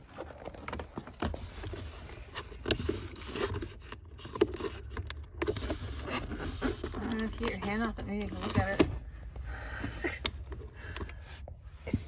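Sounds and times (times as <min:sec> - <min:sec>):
wiring and plastic scraping: 0:00.0 - 0:12.0.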